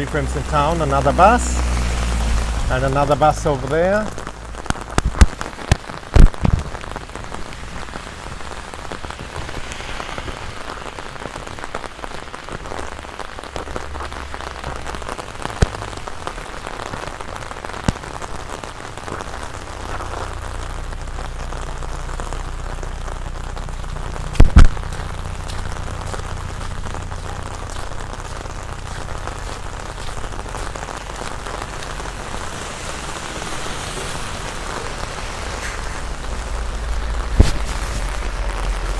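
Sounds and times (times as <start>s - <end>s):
heavy rain on an umbrella: 0.0s - 38.9s.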